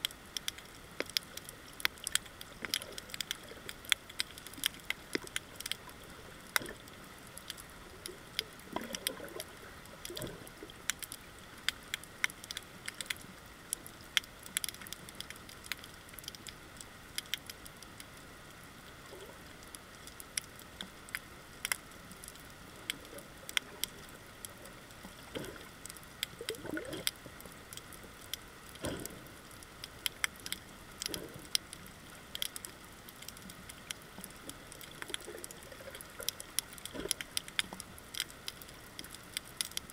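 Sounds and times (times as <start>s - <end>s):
snapping shrimp crackling: 0.0s - 16.6s, 19.1s - 39.9s
low rushes of water: 0.0s - 39.9s.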